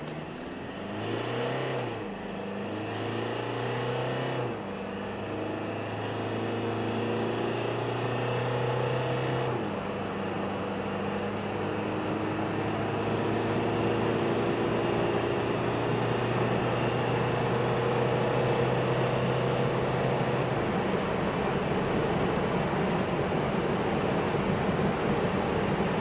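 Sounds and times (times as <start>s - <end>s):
diesel engine accelerating hard: 0.0s - 26.0s
road and wind noise: 0.0s - 26.0s.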